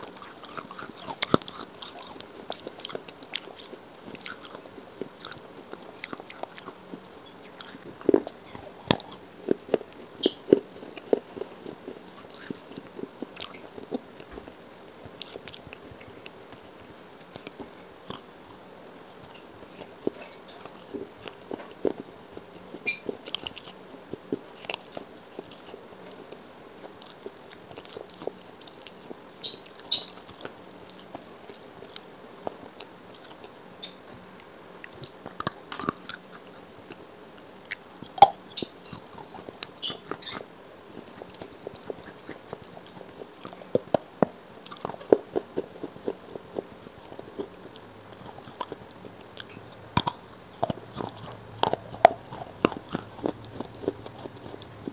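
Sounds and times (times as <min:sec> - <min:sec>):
crunching clay pots: 0:00.0 - 0:34.2, 0:37.7 - 0:54.9
chewing: 0:00.0 - 0:54.9.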